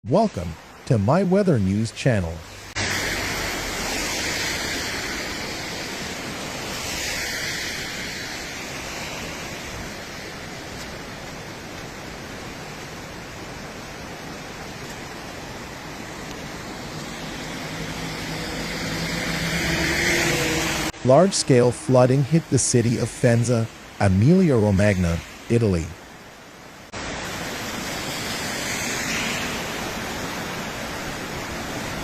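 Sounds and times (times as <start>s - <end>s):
floodwater rushing: 0.1s - 32.0s.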